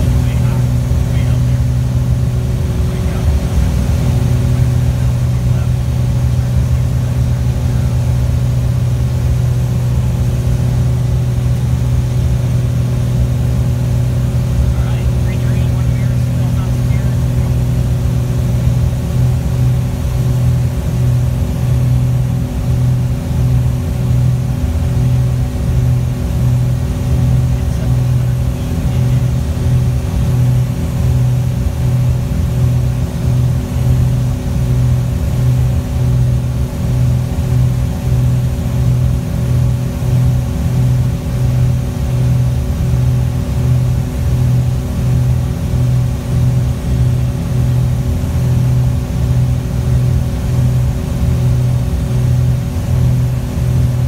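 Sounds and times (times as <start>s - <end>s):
propeller aircraft engines droning: 0.0s - 54.0s.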